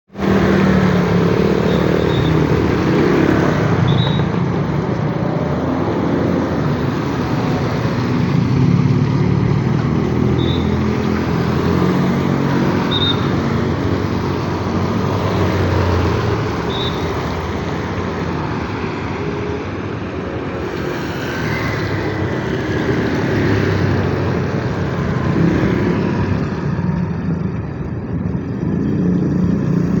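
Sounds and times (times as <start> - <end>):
cars and motorcycles passing: 0.1 - 30.0.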